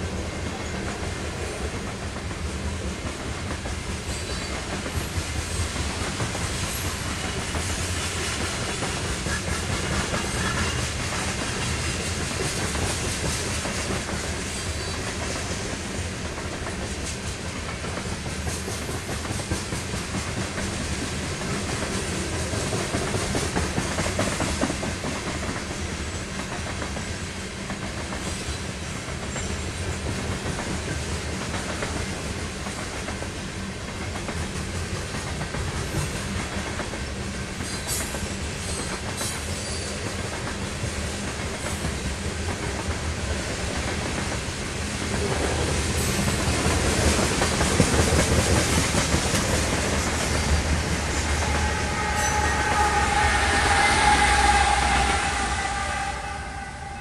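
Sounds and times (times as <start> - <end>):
diesel locomotive approaching: 0.0 - 57.0
train wheels on rails: 0.0 - 57.0.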